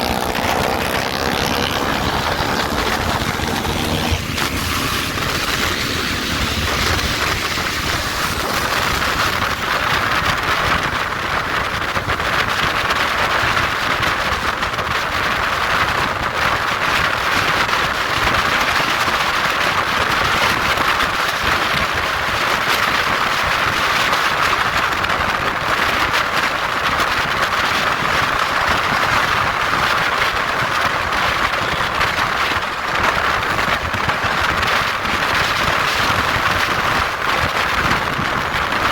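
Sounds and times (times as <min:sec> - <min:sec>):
motorcycle running: 0:00.0 - 0:38.9
wind rush over microphone: 0:00.0 - 0:38.9.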